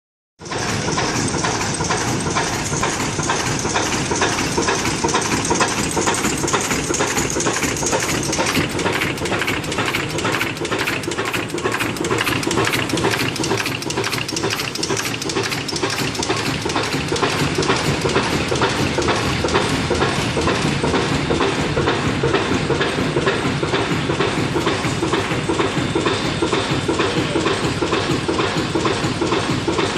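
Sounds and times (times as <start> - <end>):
diesel engine clattering: 0.4 - 29.9.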